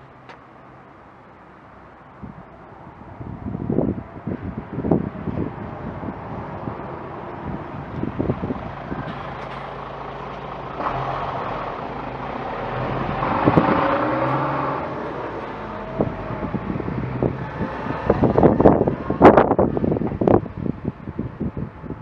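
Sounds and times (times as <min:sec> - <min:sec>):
road vehicle passing: 0:00.0 - 0:22.0
wind gusts on microphone: 0:02.1 - 0:22.0.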